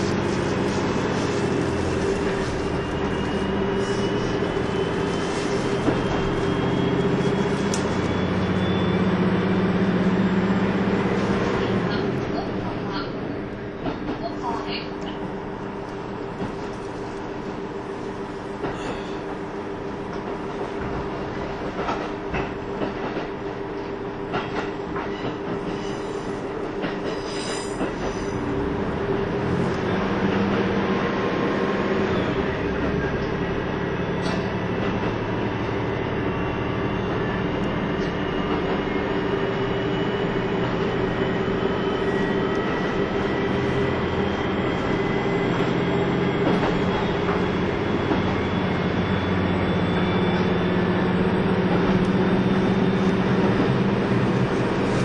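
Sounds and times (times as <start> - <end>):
railcar engine drone: 0.0 - 55.0.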